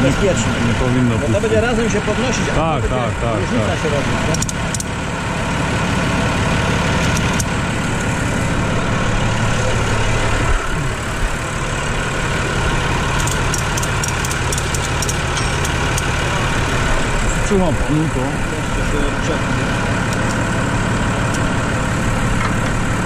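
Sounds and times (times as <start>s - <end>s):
tractor diesel engine idling: 0.0s - 23.0s.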